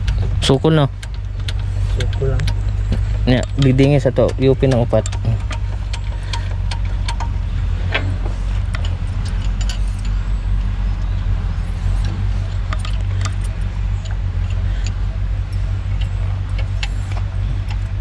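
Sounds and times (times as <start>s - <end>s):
diesel engine idling: 0.0s - 18.0s
tools clicking and tapping: 0.0s - 18.0s.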